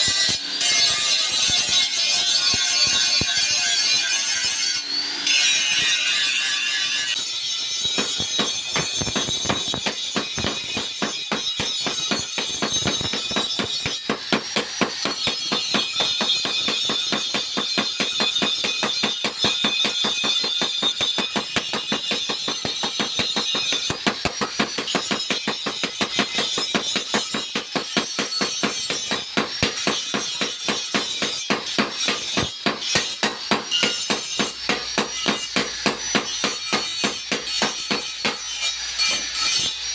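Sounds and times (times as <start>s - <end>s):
hammers striking steel on anvil: 0.0s - 39.9s
high metallic ringing: 0.0s - 39.9s.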